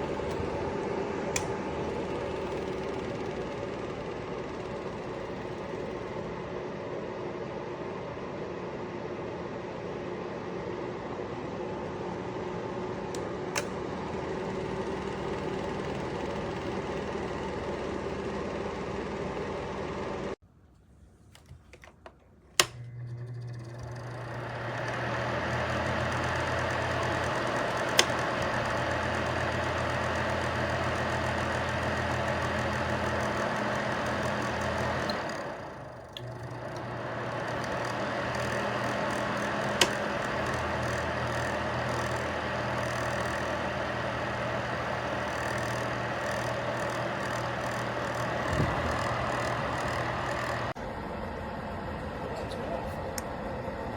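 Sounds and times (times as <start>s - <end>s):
heater fan whirring: 0.0s - 53.9s.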